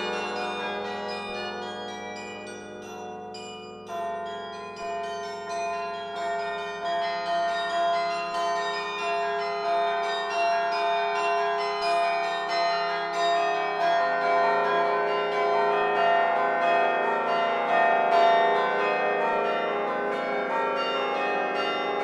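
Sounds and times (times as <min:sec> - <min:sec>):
carillon bells ringing: 0:00.0 - 0:22.0.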